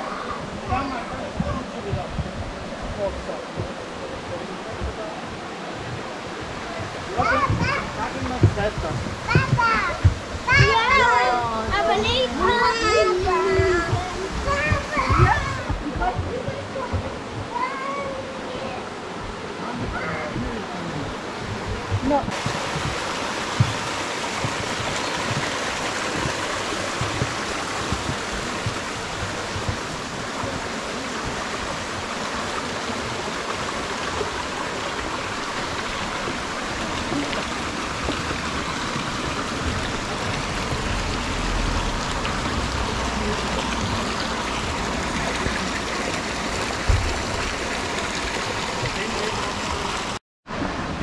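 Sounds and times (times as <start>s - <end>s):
stream rushing over rocks: 0.0s - 51.0s.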